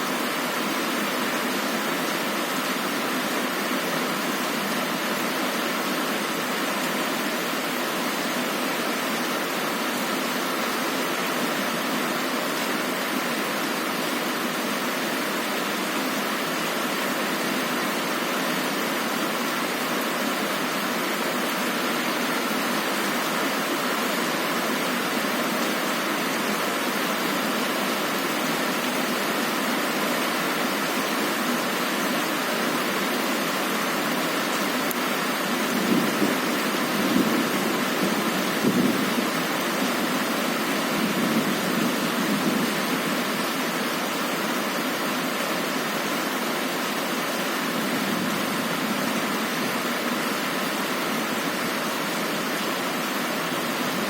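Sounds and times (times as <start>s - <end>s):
heavy rain on a window: 0.0s - 54.0s.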